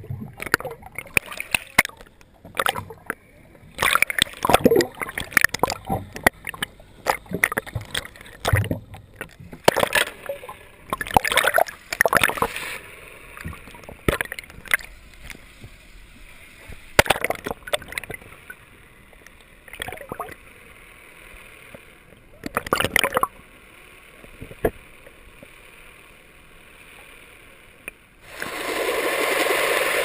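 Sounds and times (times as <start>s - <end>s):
sea water splashing: 0.0s - 20.6s, 21.5s - 23.4s, 26.6s - 30.0s.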